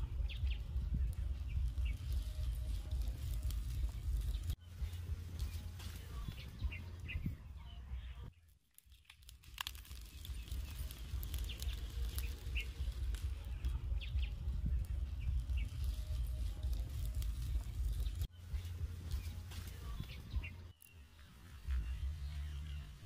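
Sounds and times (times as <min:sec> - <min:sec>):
wood fire crackling and popping: 0:00.0 - 0:06.8, 0:08.4 - 0:22.8
steady low rumble: 0:00.0 - 0:08.3, 0:10.1 - 0:23.0.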